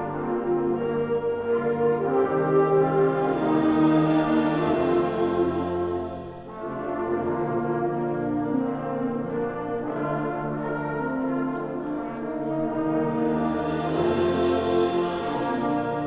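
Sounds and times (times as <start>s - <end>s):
concert band brass chords: 0.0s - 16.0s.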